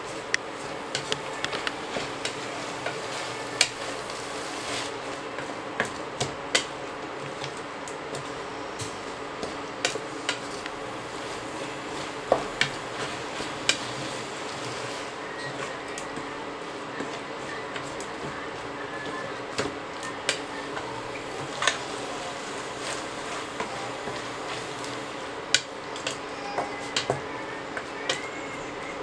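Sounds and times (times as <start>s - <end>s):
frying sizzle: 0.0s - 29.0s.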